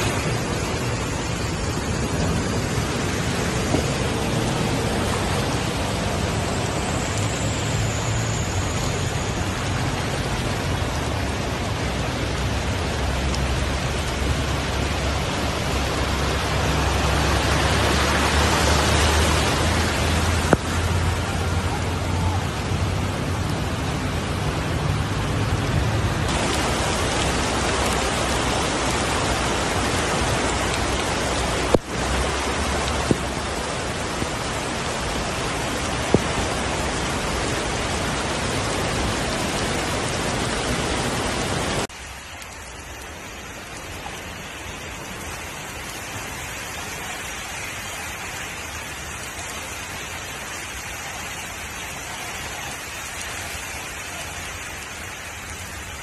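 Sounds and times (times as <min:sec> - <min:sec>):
floodwater churning around cars: 0:00.0 - 0:56.0
heavy rain: 0:00.0 - 0:56.0.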